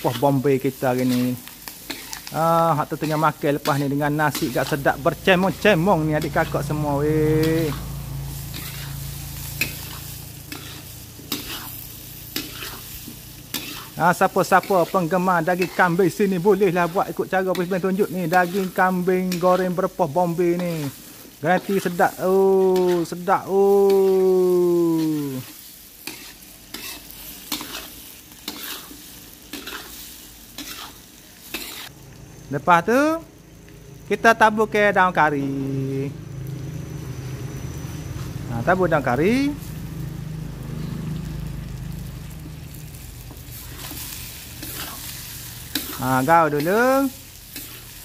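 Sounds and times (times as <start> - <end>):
spatula scraping wok: 0.0 - 31.9, 37.5 - 48.0
food sizzling: 0.0 - 48.0.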